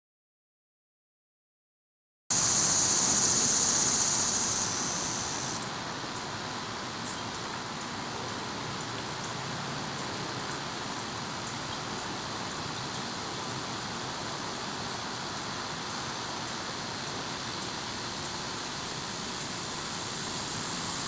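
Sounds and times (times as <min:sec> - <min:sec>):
outdoor background rush: 0:02.3 - 0:21.0.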